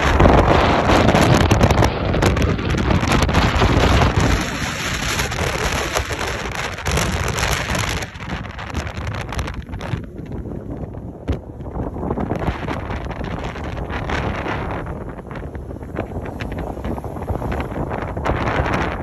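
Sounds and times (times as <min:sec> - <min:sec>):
car road noise: 0:00.0 - 0:19.0
wind buffeting microphone: 0:00.0 - 0:19.0.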